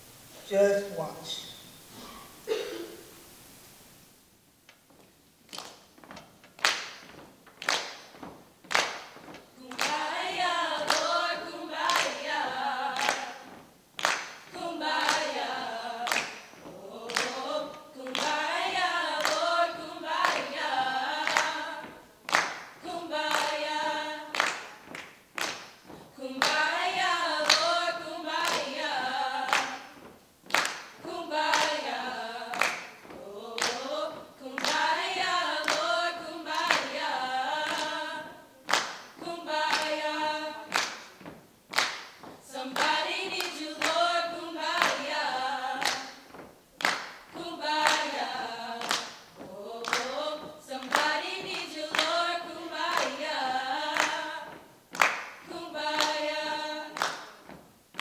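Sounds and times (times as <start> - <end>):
handclaps keeping a beat: 5.5 - 58.0
small choir singing a cappella: 9.5 - 57.6.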